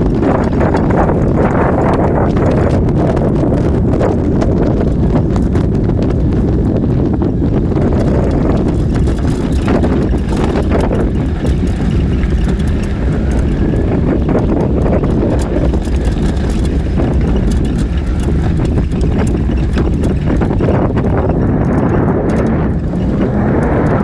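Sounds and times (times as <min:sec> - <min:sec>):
stones crackling under wheels: 0:00.0 - 0:24.0
vehicle engine and tyres rumbling: 0:00.0 - 0:24.0
wind on microphone: 0:00.0 - 0:24.0.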